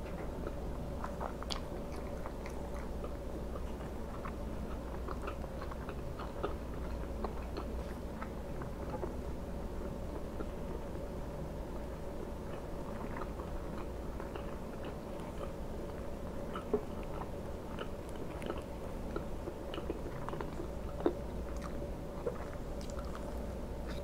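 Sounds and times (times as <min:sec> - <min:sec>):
chewing and mouth sounds: 0:00.0 - 0:11.3, 0:12.2 - 0:24.0
steady low hum: 0:00.0 - 0:24.0.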